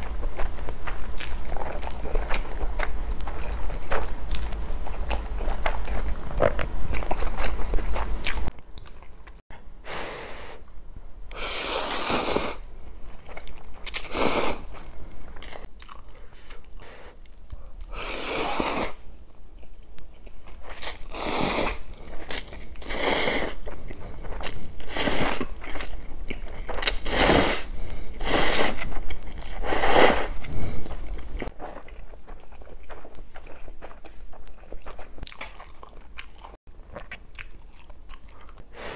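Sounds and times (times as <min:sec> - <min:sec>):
chewing: 0:00.0 - 0:09.4, 0:13.1 - 0:14.1, 0:14.7 - 0:18.0, 0:19.6 - 0:27.3, 0:28.0 - 0:38.8.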